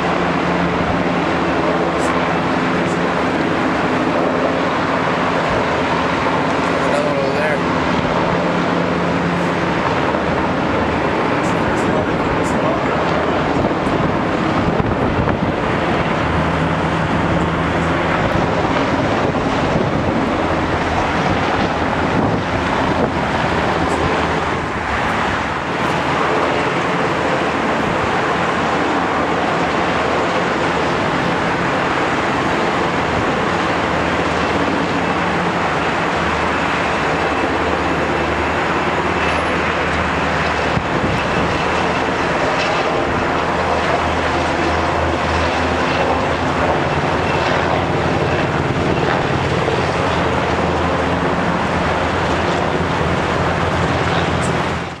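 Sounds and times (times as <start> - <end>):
helicopter rotor drone: 0.0 - 55.0.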